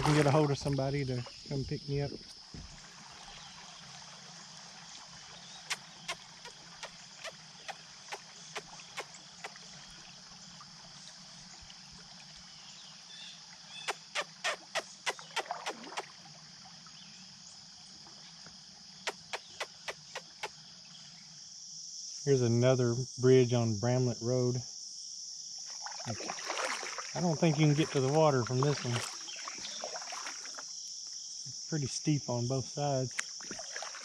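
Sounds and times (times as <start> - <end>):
insect drone: 0.0 - 34.0.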